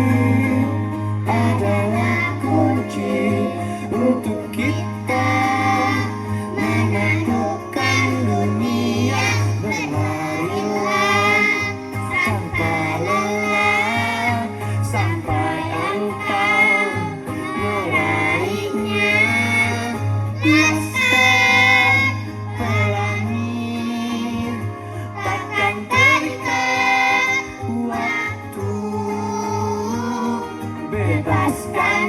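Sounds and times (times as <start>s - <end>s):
children's choir singing: 0.0s - 32.0s.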